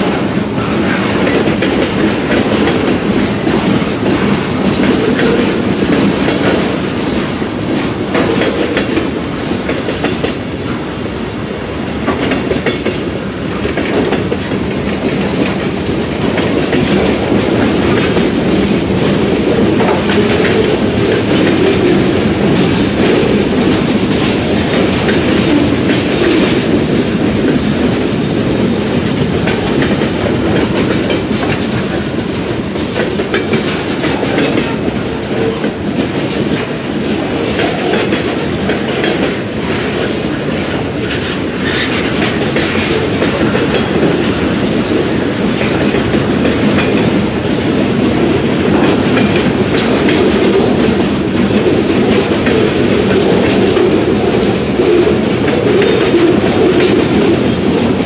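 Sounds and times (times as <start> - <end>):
clickety-clack over rail joints: 0.0 - 58.0
steel wheels rumbling on rail: 0.0 - 58.0.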